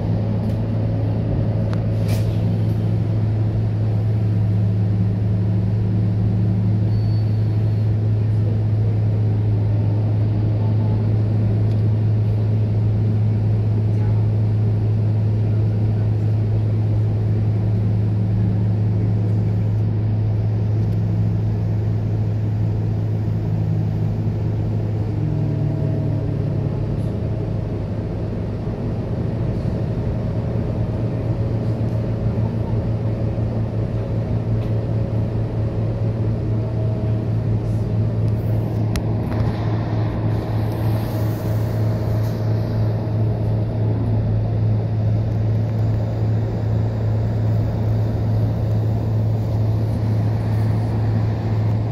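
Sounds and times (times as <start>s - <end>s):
bus diesel engine hum: 0.0s - 51.9s
road rumble: 0.0s - 51.9s.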